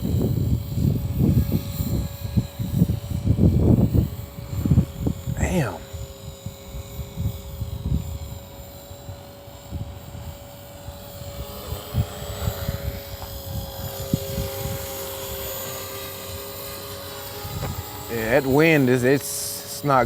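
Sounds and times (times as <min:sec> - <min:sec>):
rc helicopter rotor and motor whine: 0:00.0 - 0:20.0
wind buffeting microphone: 0:00.0 - 0:20.0.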